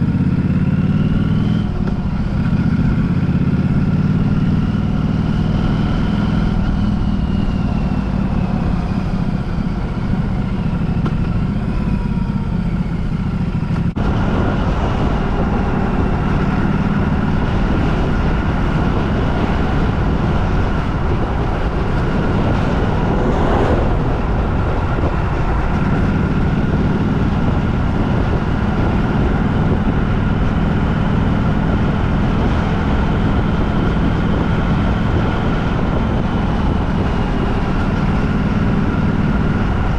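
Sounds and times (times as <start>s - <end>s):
engine hum: 0.0s - 39.9s
vehicle low rumble: 0.0s - 39.9s.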